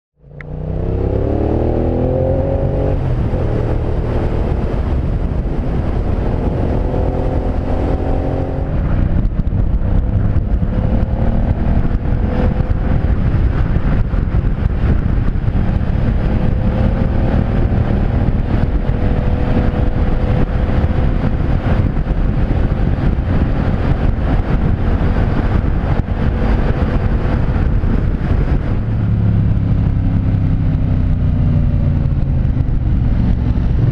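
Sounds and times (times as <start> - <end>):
motorcycle engine accelerating: 0.2 - 33.9
wind rushing: 0.3 - 33.9.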